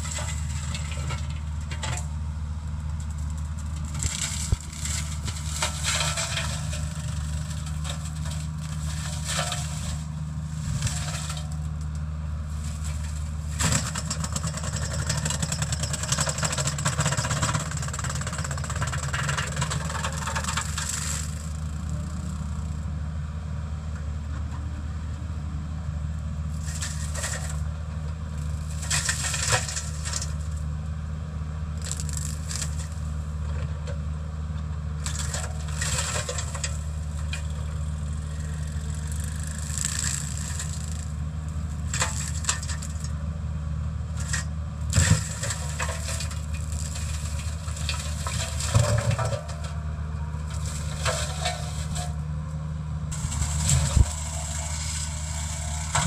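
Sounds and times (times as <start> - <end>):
flail mulcher shredding brush: 0.0 - 22.8, 26.5 - 30.7, 31.8 - 33.5, 34.9 - 43.3, 44.0 - 56.0
diesel engine running: 0.0 - 56.0.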